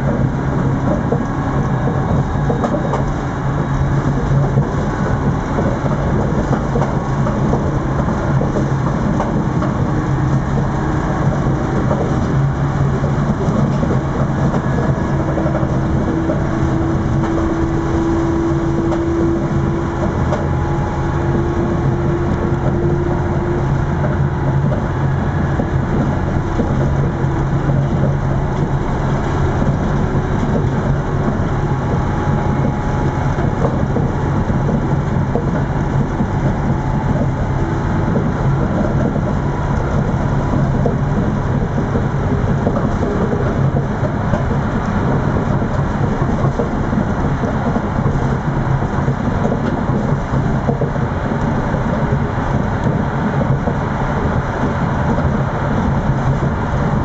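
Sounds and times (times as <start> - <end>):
diesel engine drone: 0.0 - 57.0
wheels rushing on rail: 0.0 - 57.0.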